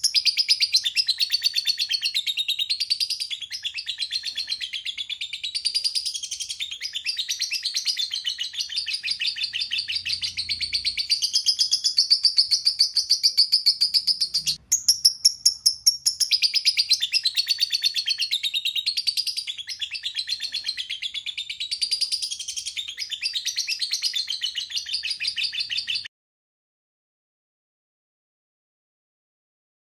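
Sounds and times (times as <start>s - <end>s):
lovebird chattering song: 0.0s - 26.1s.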